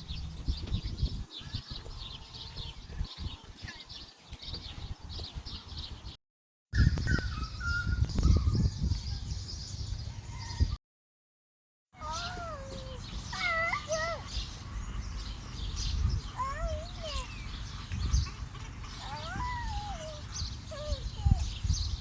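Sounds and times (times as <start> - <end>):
small birds chirping: 0.0 - 6.2, 6.8 - 10.8, 12.0 - 22.0.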